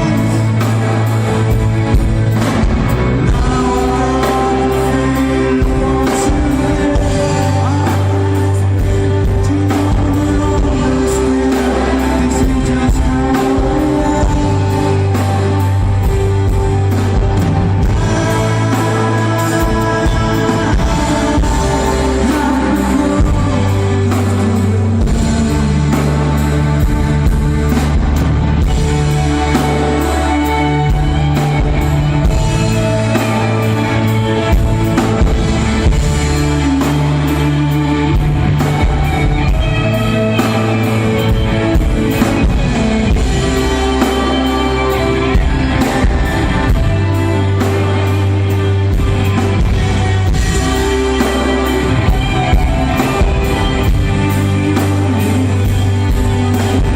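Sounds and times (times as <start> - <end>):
rock band playing live: 0.0 - 56.9.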